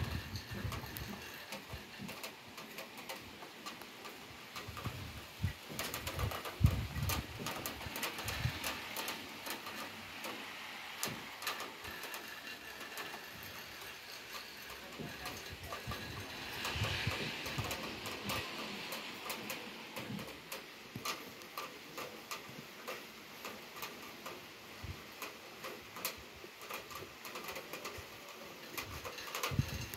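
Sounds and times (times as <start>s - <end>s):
heavy rain: 0.0s - 29.9s.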